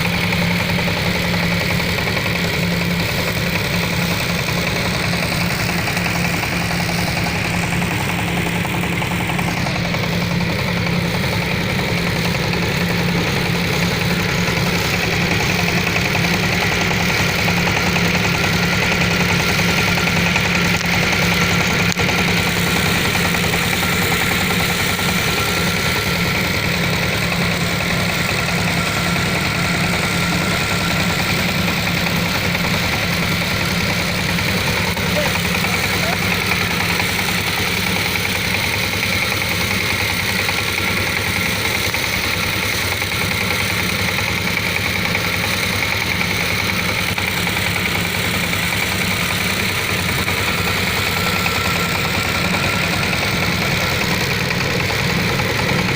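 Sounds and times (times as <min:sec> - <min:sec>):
small tiller engine running: 0:00.0 - 0:55.9.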